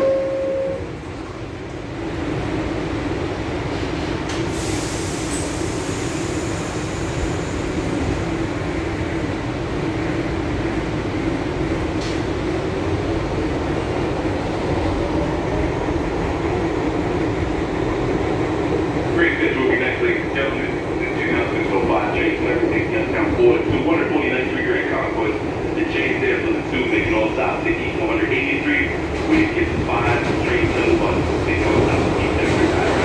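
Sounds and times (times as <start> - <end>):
subway train motors and wheels rumbling: 0.0 - 33.0.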